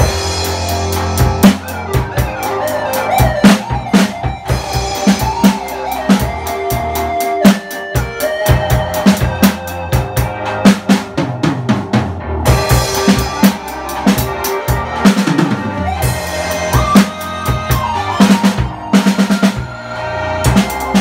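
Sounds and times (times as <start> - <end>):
backing track held notes: 0.0 - 21.0
drum kit groove: 0.0 - 21.0.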